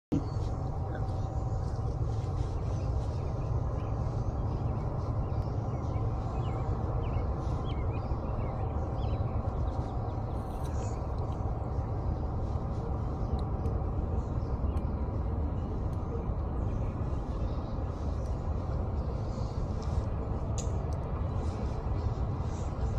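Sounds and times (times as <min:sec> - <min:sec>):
birds chirping: 0:00.1 - 0:22.9
steady low rumble: 0:00.1 - 0:22.9.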